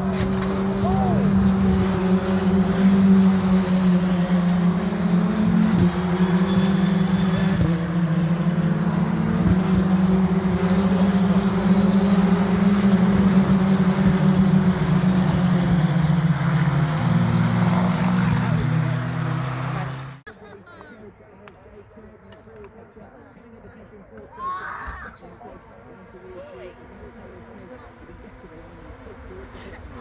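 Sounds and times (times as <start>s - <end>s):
distant racing car engines: 0.0s - 30.0s.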